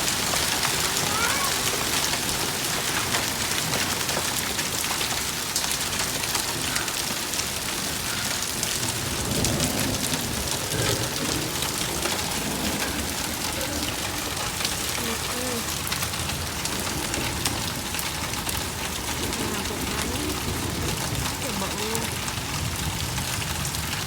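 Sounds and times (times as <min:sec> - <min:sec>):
hailstones striking: 0:00.0 - 0:24.0
heavy rain hiss: 0:00.0 - 0:24.0.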